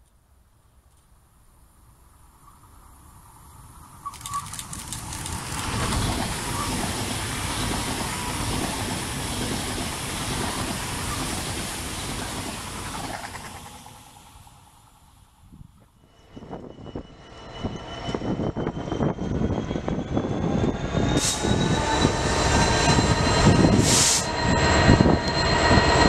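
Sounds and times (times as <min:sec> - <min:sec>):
high-speed train passing: 0:01.9 - 0:26.0.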